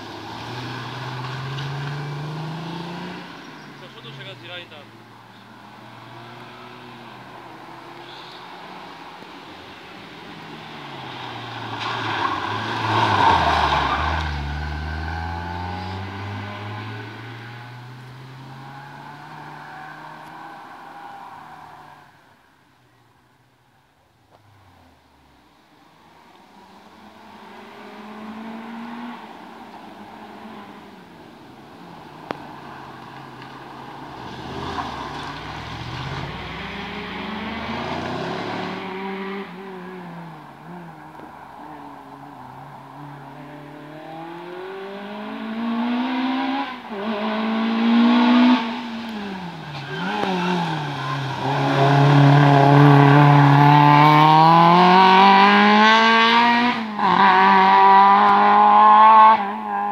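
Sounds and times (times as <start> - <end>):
car engine revving: 0.0 - 21.9, 32.0 - 59.9.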